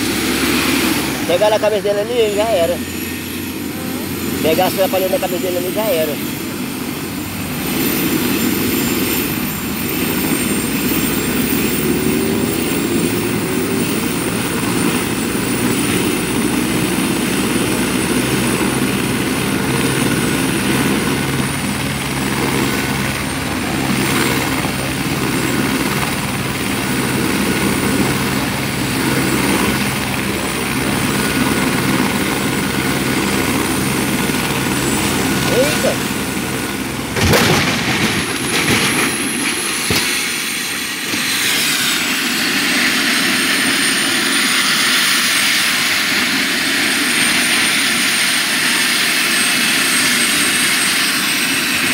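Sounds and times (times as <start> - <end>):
high whine: 0.0 - 48.0
helicopter rotor and engine drone: 0.0 - 51.9.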